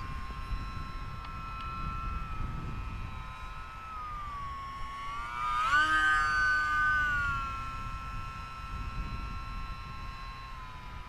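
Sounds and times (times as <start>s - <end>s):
model plane motor whining: 0.0s - 11.0s.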